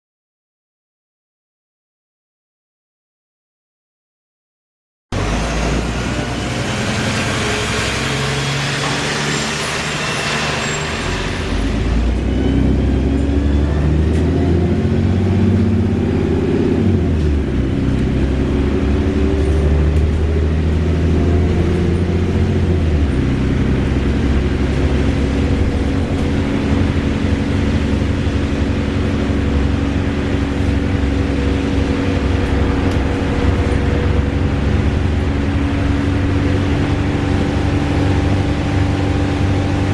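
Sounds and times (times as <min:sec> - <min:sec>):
bus engine whirring: 0:05.1 - 0:39.9.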